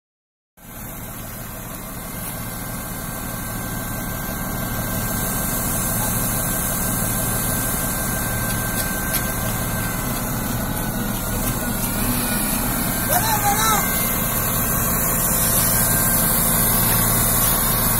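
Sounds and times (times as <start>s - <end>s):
diesel engine throbbing: 0.6s - 17.9s.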